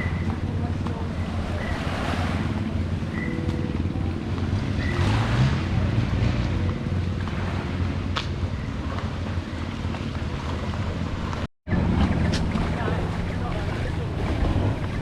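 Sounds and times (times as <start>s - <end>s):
boat engine humming: 0.0s - 15.0s
waves washing: 0.0s - 15.0s
wind on microphone: 0.0s - 15.0s.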